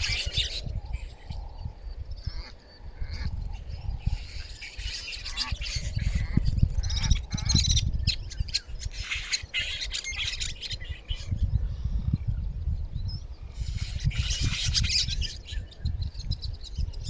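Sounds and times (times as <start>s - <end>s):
birds calling and squawking: 0.0s - 17.0s.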